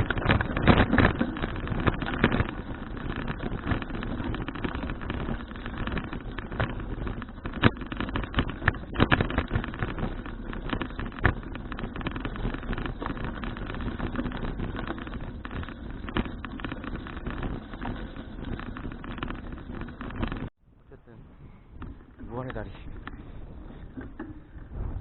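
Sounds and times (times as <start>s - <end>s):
knocks and rattles: 0.0s - 20.5s, 21.7s - 25.0s
road rumble: 0.0s - 25.0s
wind buffeting microphone: 0.0s - 25.0s.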